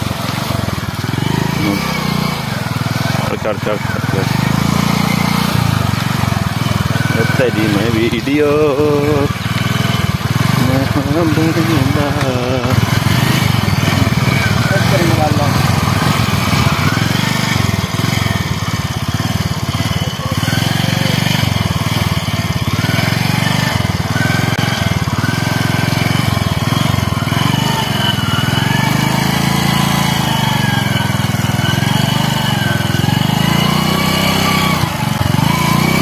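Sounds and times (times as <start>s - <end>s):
motorcycle engine at low revs: 0.0s - 36.0s.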